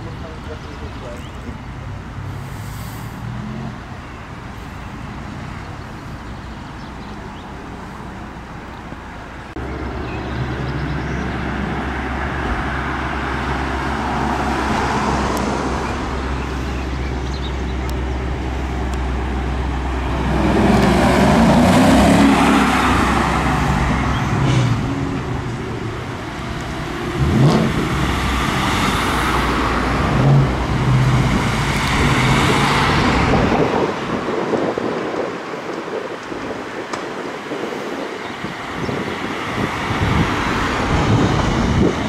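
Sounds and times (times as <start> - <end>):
car engines running: 0.0 - 42.0.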